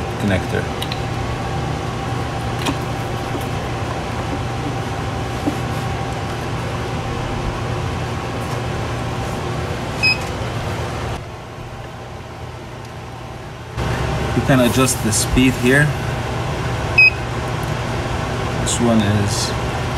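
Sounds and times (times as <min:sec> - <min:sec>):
fridge mechanical hum: 0:00.0 - 0:19.9.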